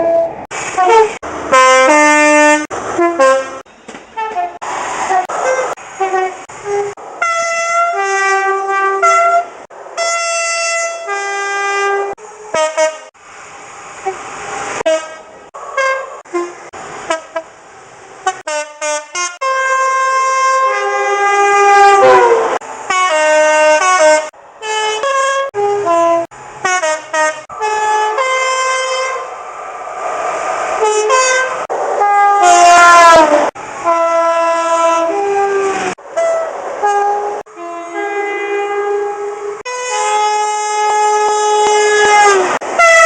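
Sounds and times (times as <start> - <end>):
train two-tone horns: 0.0 - 13.2, 14.0 - 17.5, 18.2 - 29.3, 30.8 - 43.0.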